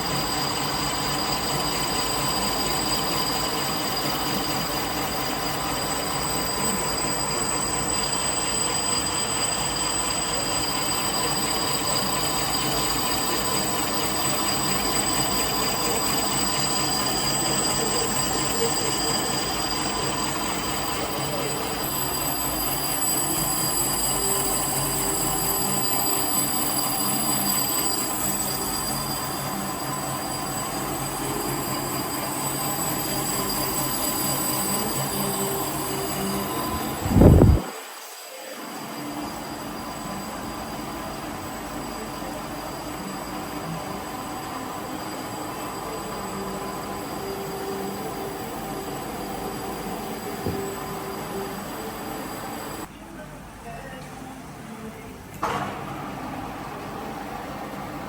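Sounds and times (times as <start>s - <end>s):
machine grinding with high whine: 0.0s - 52.9s.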